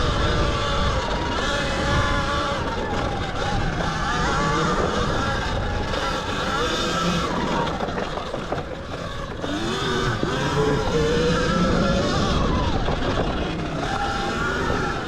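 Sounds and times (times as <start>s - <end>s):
electric motor whine: 0.0s - 15.0s
wind and tyre noise: 0.0s - 15.0s.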